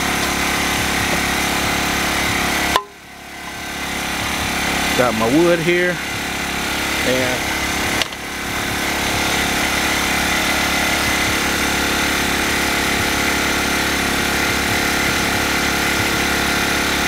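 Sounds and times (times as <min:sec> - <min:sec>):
drill boring into wood: 0:00.0 - 0:17.0
generator engine running: 0:00.0 - 0:17.0.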